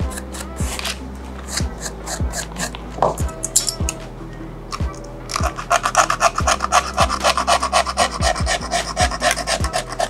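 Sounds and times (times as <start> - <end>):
blade scraping phone frame: 0.0 - 3.6, 5.3 - 10.0.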